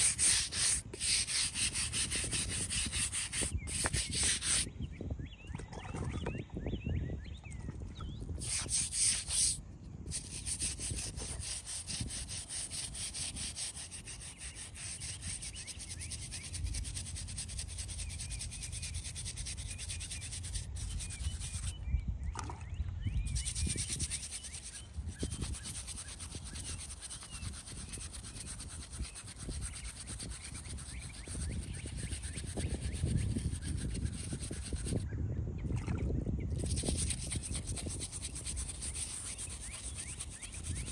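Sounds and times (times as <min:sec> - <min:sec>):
hand tool scrubbing stone: 0:00.0 - 0:04.7, 0:08.4 - 0:21.8, 0:23.2 - 0:35.0, 0:36.6 - 0:40.9.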